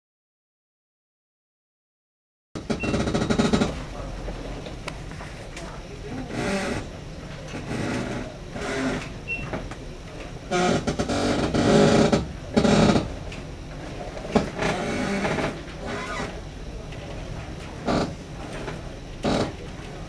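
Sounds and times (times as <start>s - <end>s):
machinery and ventilation rumble: 2.6s - 20.0s.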